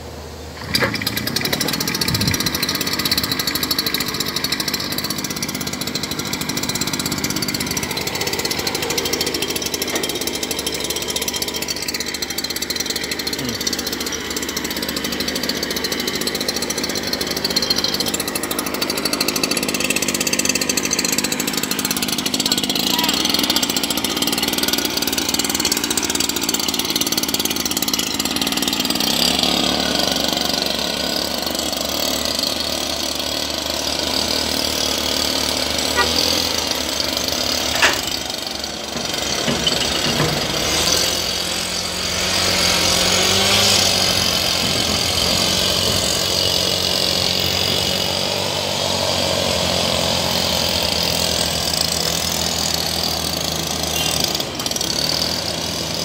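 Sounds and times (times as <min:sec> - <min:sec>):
mist blower engine running: 0:00.0 - 0:56.0.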